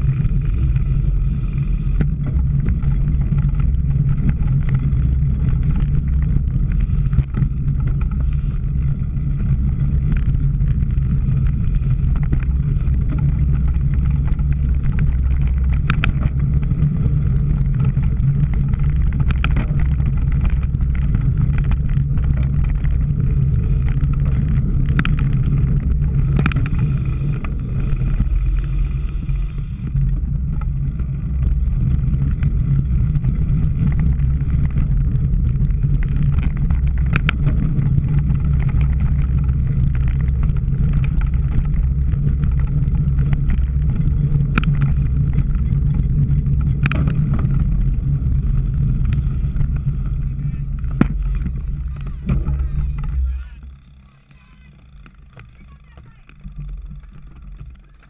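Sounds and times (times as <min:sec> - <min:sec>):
bike clicks and rattles: 0:00.0 - 0:58.0
wind buffeting microphone: 0:00.0 - 0:58.0.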